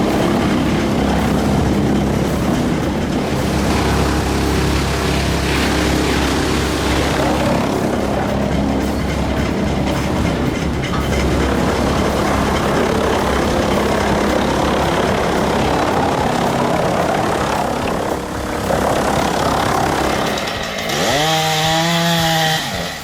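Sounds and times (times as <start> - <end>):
heavy machinery rumbling: 0.0 - 23.0.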